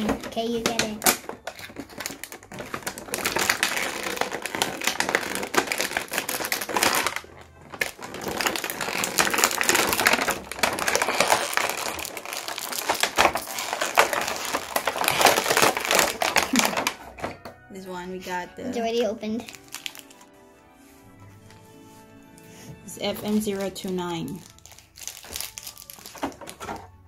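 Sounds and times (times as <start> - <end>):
plastic packaging crinkling: 0.0 - 17.3, 19.4 - 20.4, 23.0 - 27.0.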